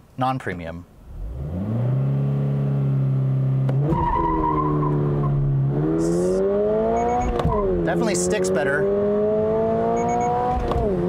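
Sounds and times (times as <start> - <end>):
car engine accelerating: 1.1 - 11.0.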